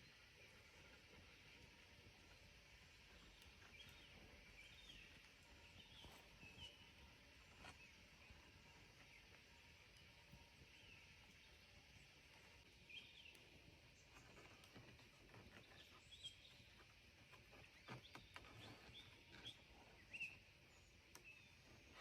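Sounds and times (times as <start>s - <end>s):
faint forest ambience: 0.0s - 22.0s.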